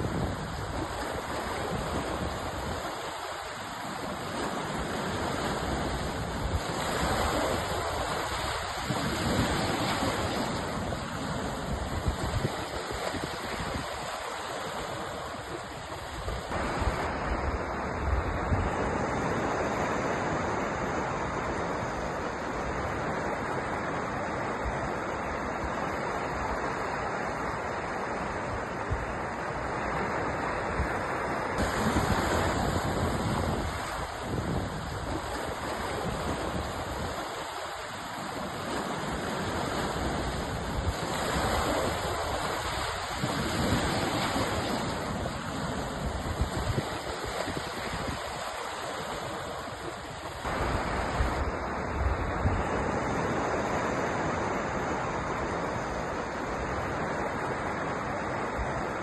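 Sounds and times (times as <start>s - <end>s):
waves breaking ashore: 0.0s - 59.0s.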